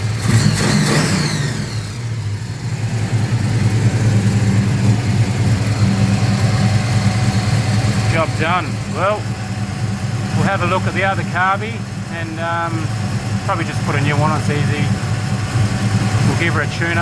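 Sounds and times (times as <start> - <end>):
engine revving and idling: 0.0 - 17.0.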